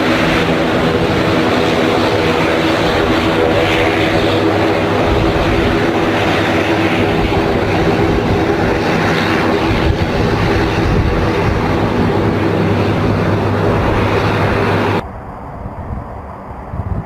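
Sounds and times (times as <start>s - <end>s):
aircraft engines roaring: 0.0s - 17.0s.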